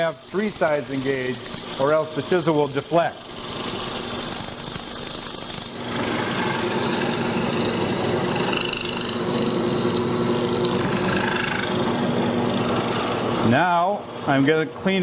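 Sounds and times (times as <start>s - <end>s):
chisel cutting wood: 0.0s - 14.2s
drill press high whine: 0.0s - 14.4s.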